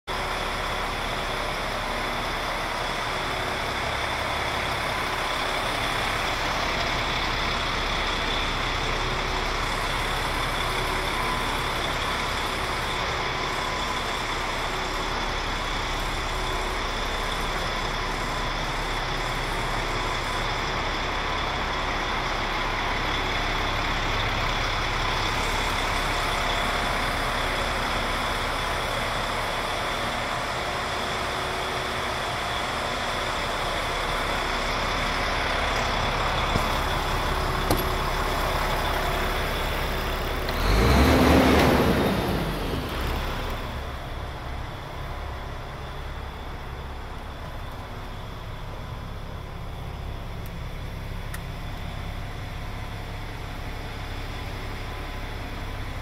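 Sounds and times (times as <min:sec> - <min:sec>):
diesel truck engine idling: 0:00.1 - 0:56.0.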